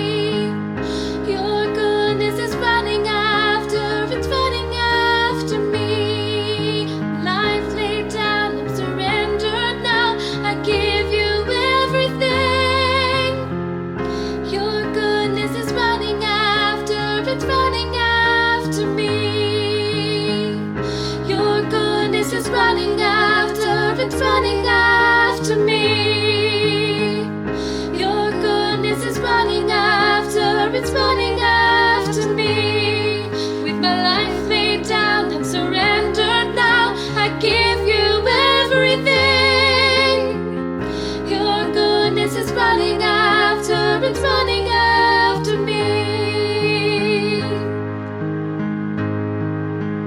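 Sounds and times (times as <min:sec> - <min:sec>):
piano accompaniment: 0:00.0 - 0:50.0.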